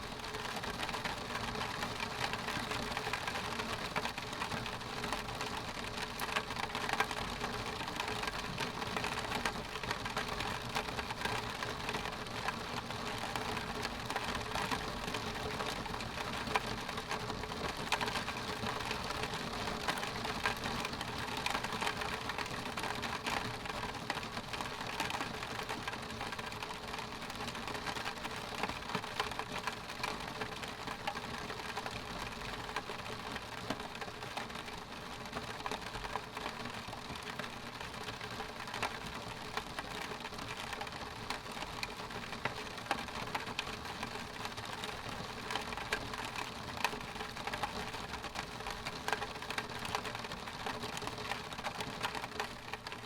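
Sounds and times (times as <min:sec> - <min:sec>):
rain tapping on window glass: 0:00.1 - 0:53.0.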